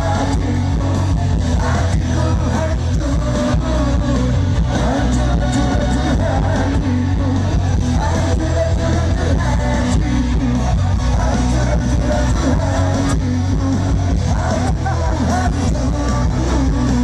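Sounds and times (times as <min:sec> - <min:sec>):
live rock band playing: 0:00.0 - 0:17.0
person singing lead vocals: 0:00.0 - 0:17.0.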